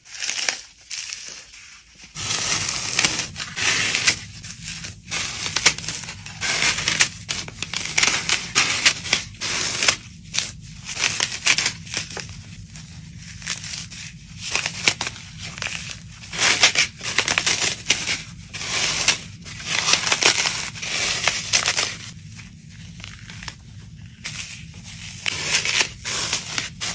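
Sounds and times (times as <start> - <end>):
floral foam crunching by hand: 0.0 - 26.9.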